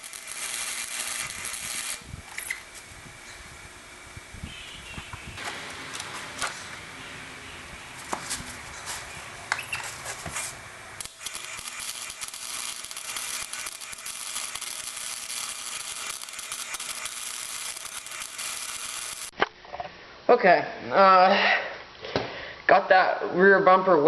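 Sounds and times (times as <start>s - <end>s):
arc welder crackling: 0.0s - 19.4s.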